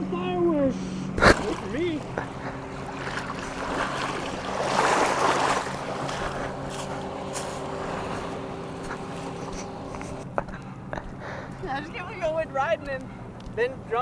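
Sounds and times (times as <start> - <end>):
motorboat engine idling: 0.0 - 14.0.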